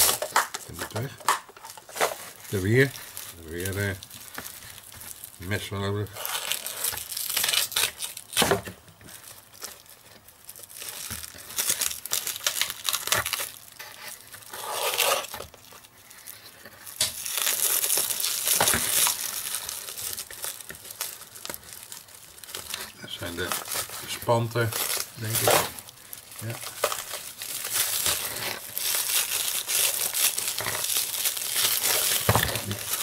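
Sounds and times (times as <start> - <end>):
plastic wrap crinkling and tearing: 0.0 - 33.0.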